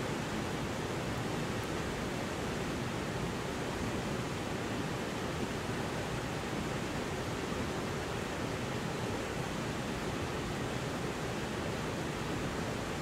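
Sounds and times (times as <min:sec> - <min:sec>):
river water rushing over rocks: 0:00.1 - 0:13.0.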